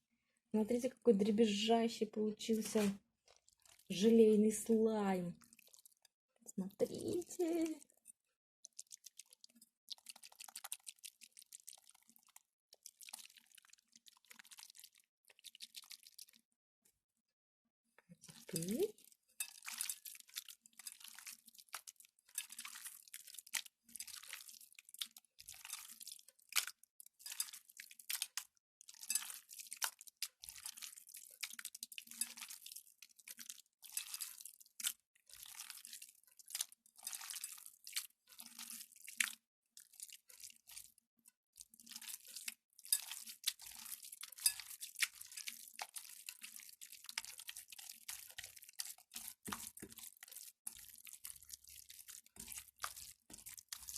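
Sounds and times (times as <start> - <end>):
slime squelching and crackling: 2.4 - 4.7, 5.4 - 16.4, 18.0 - 53.9.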